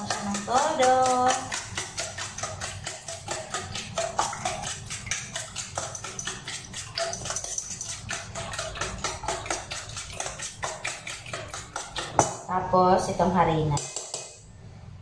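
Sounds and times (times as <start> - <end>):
spoon beating eggs in metal bowl: 0.0 - 12.5, 13.8 - 14.5.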